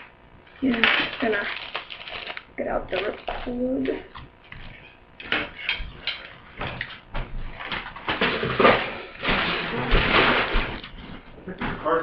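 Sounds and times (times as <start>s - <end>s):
plastic packaging crinkling: 0.5s - 11.1s
plastic packaging rustle: 0.5s - 11.3s.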